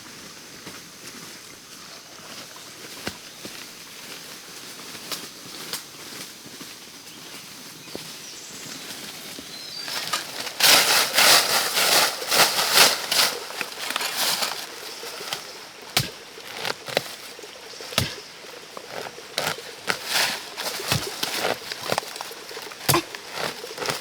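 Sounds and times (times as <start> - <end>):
dry leaves and brush rustling: 0.0 - 24.0.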